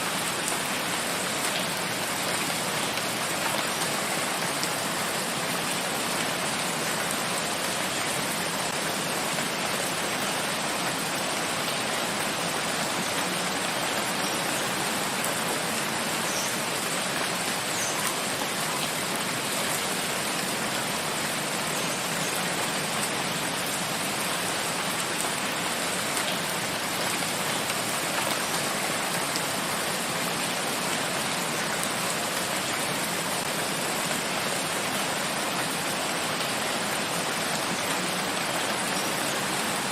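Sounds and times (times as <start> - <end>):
steady rain in forest: 0.0 - 39.9.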